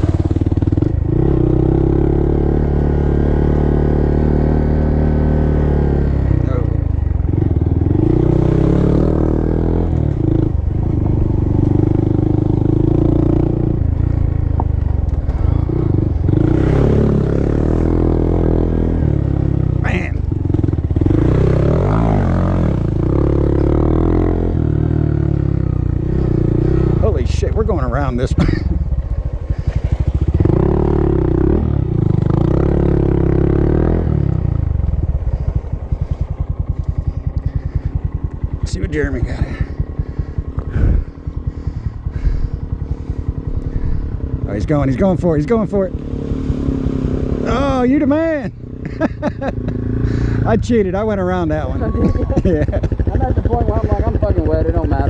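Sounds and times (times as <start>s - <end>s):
small motorcycle engine running: 0.0s - 55.0s.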